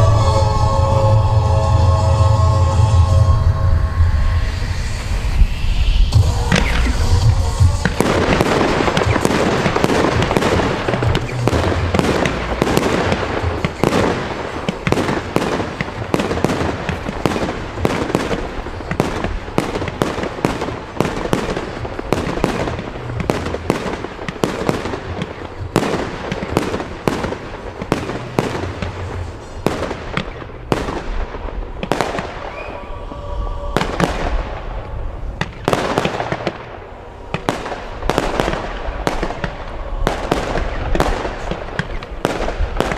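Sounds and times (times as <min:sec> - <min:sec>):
fireworks barrage: 0:00.0 - 0:42.9
fireworks crackling: 0:00.0 - 0:42.9.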